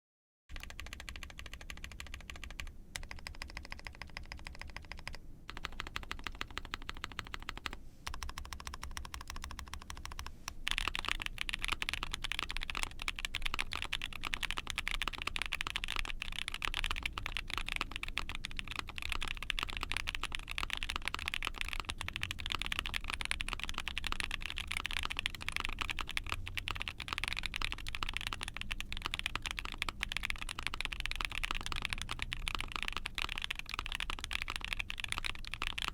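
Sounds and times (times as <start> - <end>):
mechanical keyboard typing: 0.5 - 35.9.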